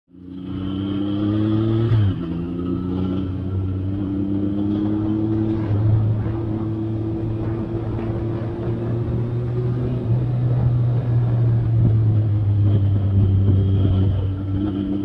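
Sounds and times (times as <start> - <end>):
motorcycle engine revving: 0.1 - 15.0.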